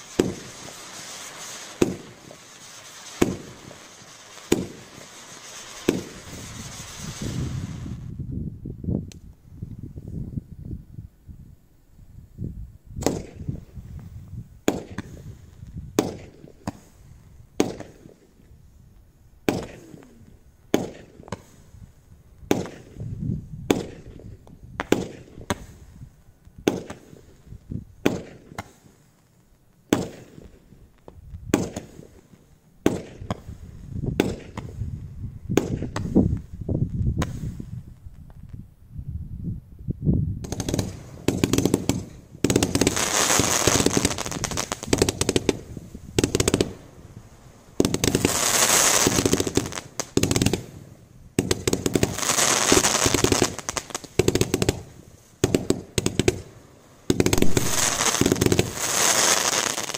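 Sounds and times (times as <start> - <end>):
fireworks popping: 0.0 - 8.2, 13.0 - 18.5, 19.4 - 38.7, 40.4 - 59.9
dense fireworks crackling: 0.0 - 8.5, 12.9 - 38.7, 40.3 - 59.9.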